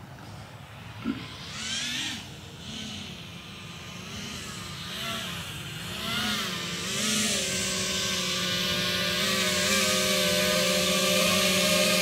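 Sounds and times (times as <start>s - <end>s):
drone motors whining: 0.2s - 12.0s.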